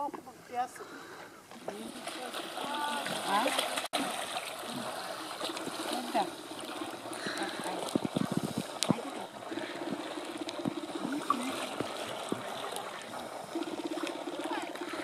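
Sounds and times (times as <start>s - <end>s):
sea water lapping and trickling: 0.3s - 15.0s
low buzzing hum: 1.3s - 15.0s
sharp water splashes: 1.6s - 15.0s.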